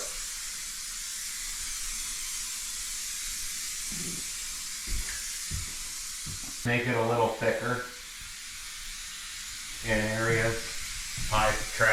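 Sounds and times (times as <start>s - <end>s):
spray can hissing: 0.0s - 11.9s.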